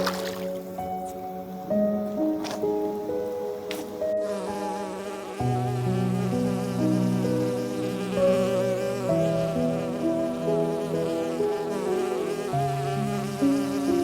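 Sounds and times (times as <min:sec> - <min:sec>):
relaxing instrumental music: 0:00.0 - 0:14.0.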